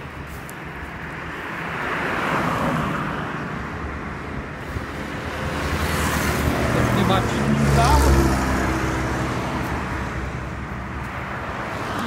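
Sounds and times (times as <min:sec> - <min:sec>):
vehicle passing on road: 0:00.0 - 0:12.0
vehicle approaching: 0:00.1 - 0:12.0.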